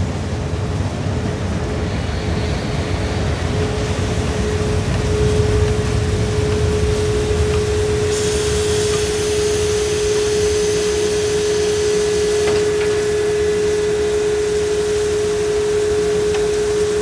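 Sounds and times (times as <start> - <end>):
steady high hum: 0.0 - 17.0
steam locomotive venting steam: 0.0 - 17.0.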